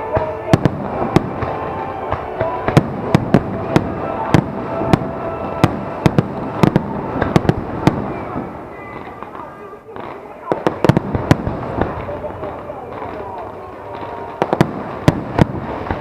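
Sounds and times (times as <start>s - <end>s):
firework bangs: 0.0s - 16.0s
fireworks crackling: 0.0s - 16.0s.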